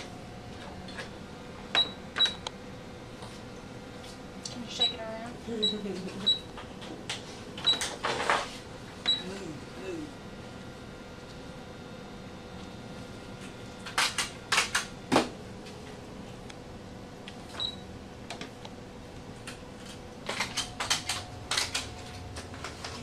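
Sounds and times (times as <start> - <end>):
machine faint steady hum: 0.0 - 23.0.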